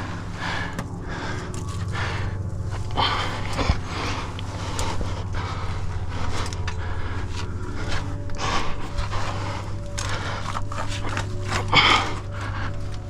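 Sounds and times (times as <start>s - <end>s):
heavy breathing: 0.0s - 13.0s
low hum: 0.0s - 13.0s.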